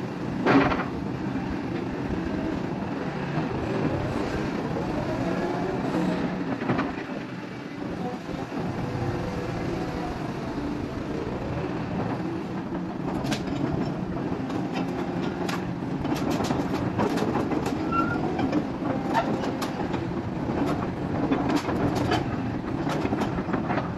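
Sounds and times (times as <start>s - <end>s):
diesel excavator engine running: 0.0s - 23.9s
steel crawler tracks clanking: 0.4s - 23.9s.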